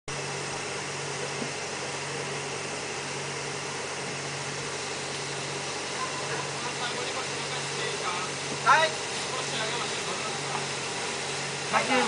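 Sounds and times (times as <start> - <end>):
motor-driven equipment humming: 0.1 - 12.0.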